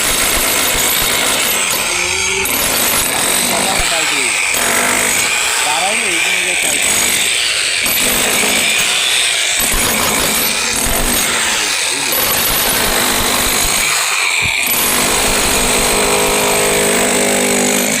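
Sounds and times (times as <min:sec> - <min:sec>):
power tool motor running: 0:00.0 - 0:18.0.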